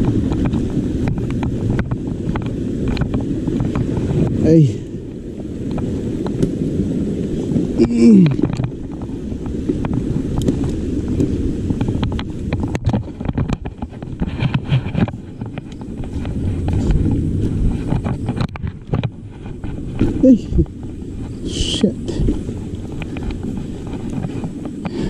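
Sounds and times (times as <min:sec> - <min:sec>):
bike clicks and rattles: 0:00.0 - 0:25.0
bike rumbling over rough trail: 0:00.0 - 0:25.0
wind buffeting microphone: 0:00.0 - 0:25.0.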